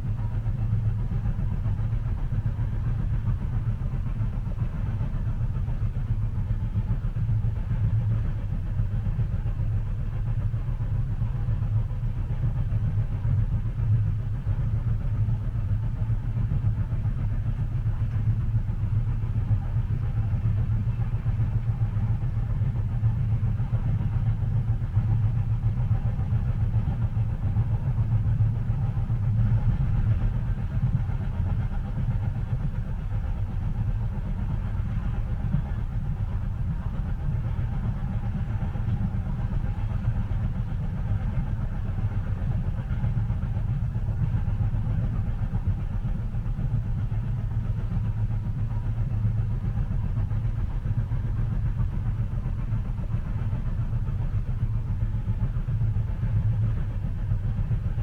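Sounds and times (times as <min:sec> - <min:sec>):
train rumbling inside carriage: 0:00.0 - 0:58.0.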